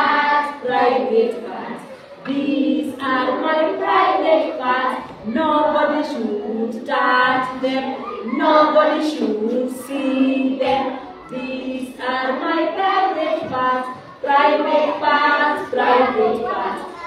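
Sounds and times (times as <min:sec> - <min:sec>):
woman and children singing: 0:00.0 - 0:17.0.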